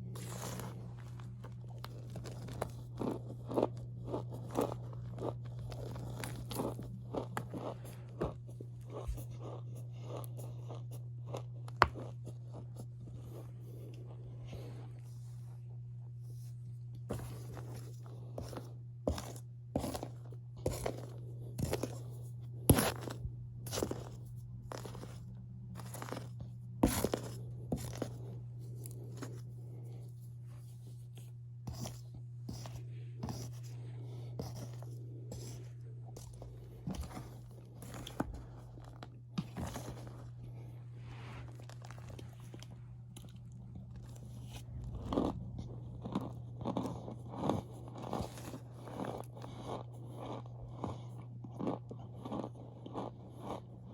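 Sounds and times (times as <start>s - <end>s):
cornstarch crunching and squeaking: 0.0s - 14.7s, 17.1s - 29.5s, 31.7s - 53.9s.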